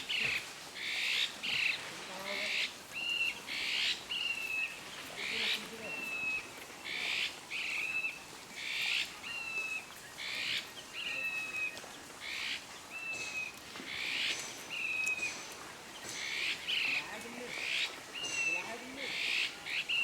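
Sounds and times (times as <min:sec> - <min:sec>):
bird calling raspy and whistled: 0:00.0 - 0:20.0.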